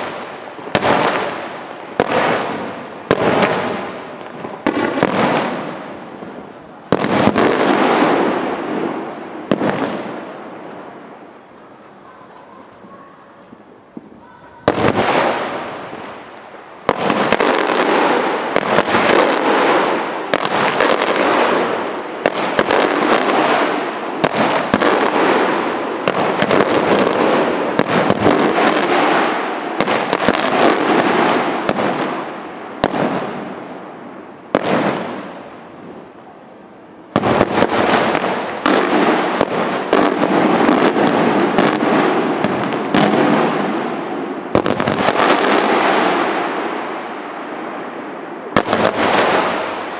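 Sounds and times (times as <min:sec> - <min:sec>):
firework crackle: 0:00.0 - 0:49.9.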